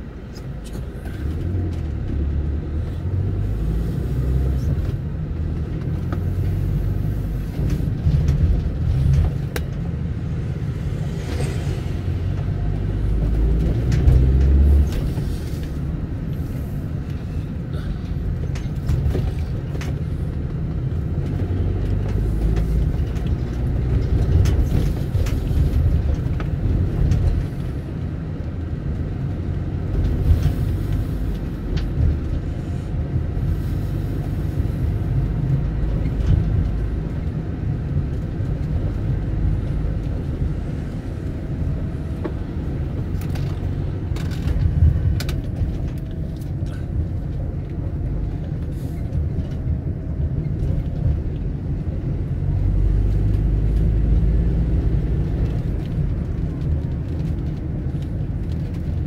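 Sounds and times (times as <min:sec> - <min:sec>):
low vehicle rumble: 0:00.0 - 0:59.0.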